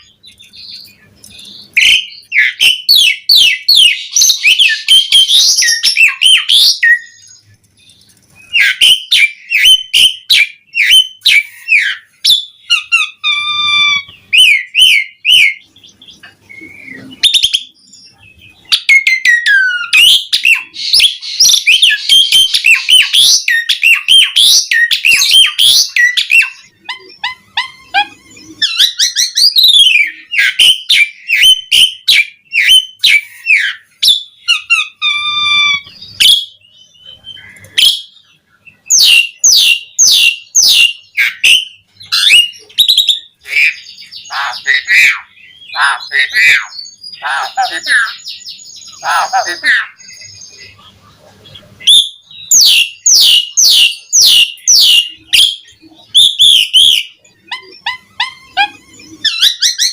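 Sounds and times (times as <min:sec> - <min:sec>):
starling singing: 0:00.0 - 0:59.9.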